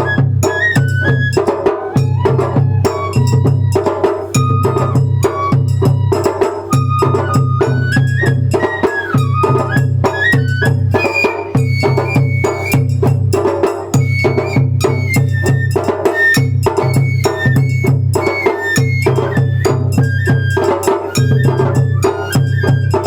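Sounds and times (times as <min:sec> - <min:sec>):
high bamboo flute melody: 0:00.0 - 0:23.0
sharp percussive strikes: 0:00.0 - 0:23.0
steady drumming: 0:00.0 - 0:23.0.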